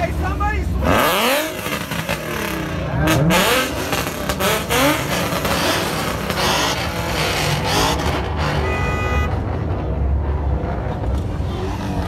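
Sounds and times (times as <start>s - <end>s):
car engine revving: 0.7s - 12.0s.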